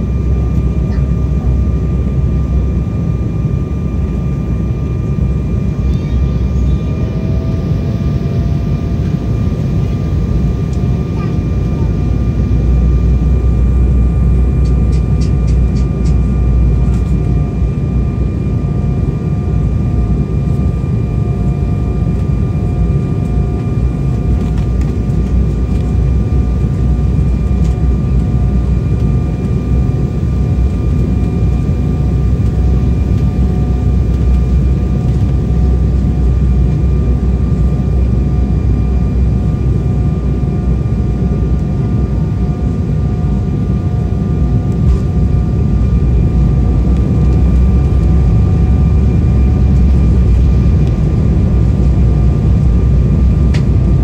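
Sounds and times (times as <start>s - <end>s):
airflow rumble in cabin: 0.0s - 54.0s
jet engine whine: 0.0s - 54.0s.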